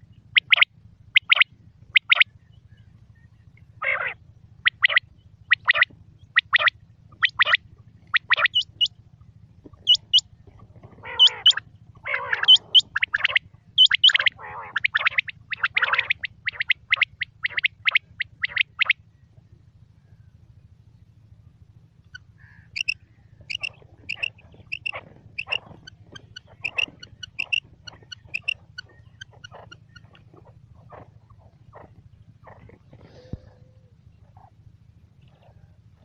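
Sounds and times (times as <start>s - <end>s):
quail calling: 0.0s - 9.0s, 9.6s - 19.0s, 22.0s - 34.6s
steady low hum: 0.0s - 36.0s.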